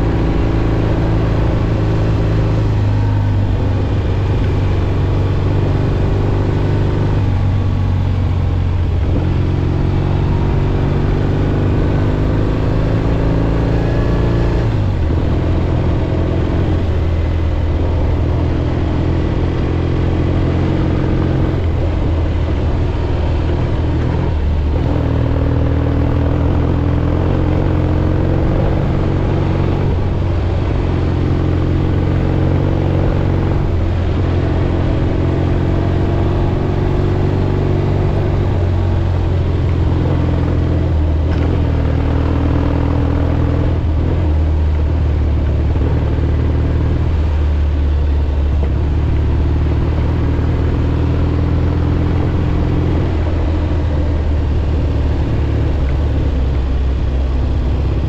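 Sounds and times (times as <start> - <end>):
gravel road noise: 0.0 - 58.0
motorcycle engine running: 0.0 - 58.0.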